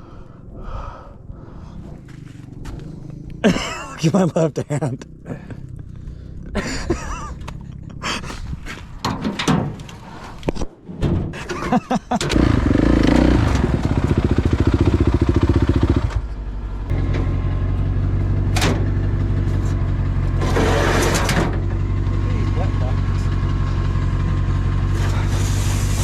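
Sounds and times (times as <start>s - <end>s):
dirt bike engine idling: 0.0s - 8.7s, 12.4s - 21.0s, 21.6s - 26.0s.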